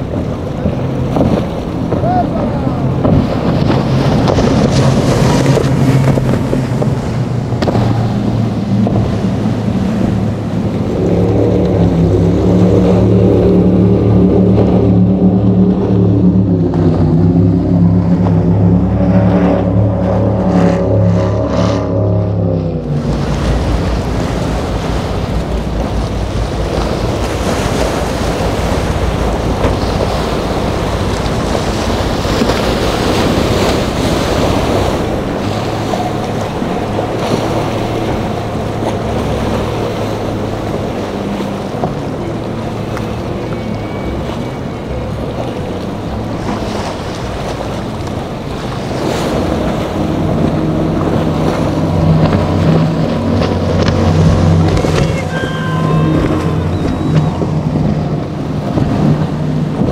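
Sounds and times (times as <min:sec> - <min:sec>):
powerboat engines droning: 0:00.0 - 0:59.9
water rushing and splashing: 0:00.0 - 0:59.9
wind buffeting microphone: 0:00.0 - 0:59.9.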